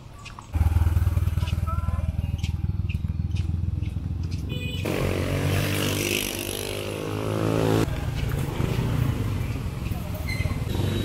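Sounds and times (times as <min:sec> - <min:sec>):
motorcycle engine running: 0:00.5 - 0:09.9.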